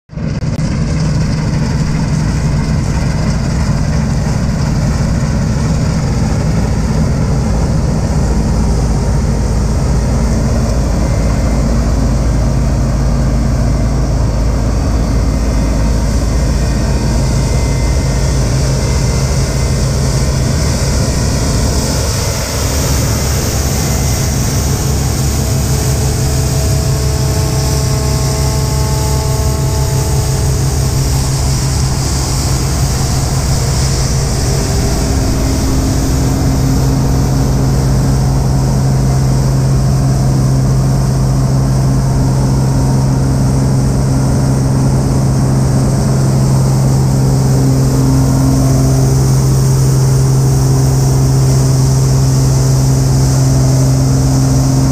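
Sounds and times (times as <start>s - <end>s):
combine harvester engine drone: 0.1s - 54.9s
high steady whining tones: 0.1s - 54.9s
whirr of threshing machinery: 0.1s - 54.9s.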